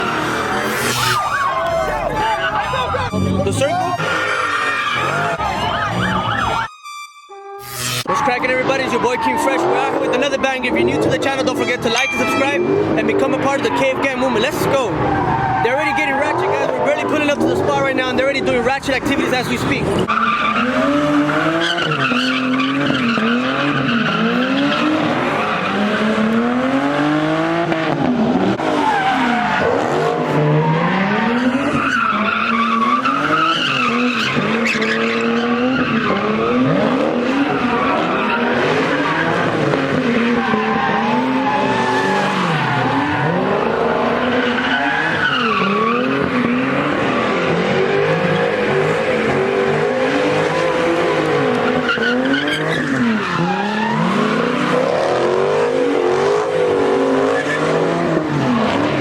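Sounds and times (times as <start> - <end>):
car engine revving: 0.0 - 6.6, 7.6 - 59.0
tyres squealing: 0.0 - 20.7, 28.6 - 58.6.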